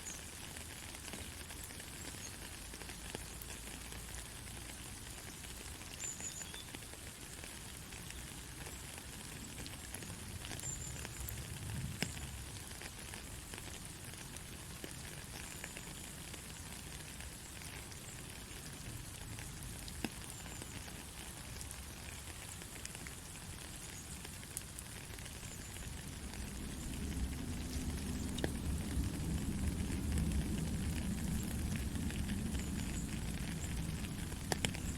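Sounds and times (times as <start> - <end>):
raindrops ticking: 0.0 - 34.9
soft steady rain falling: 0.0 - 34.9.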